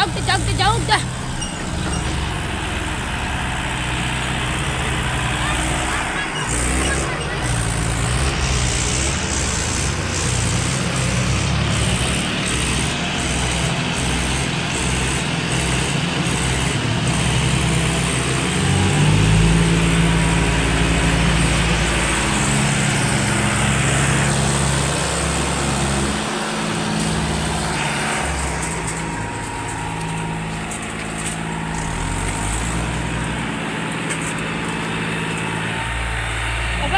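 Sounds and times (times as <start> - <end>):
diesel tractors under load: 0.0 - 36.9.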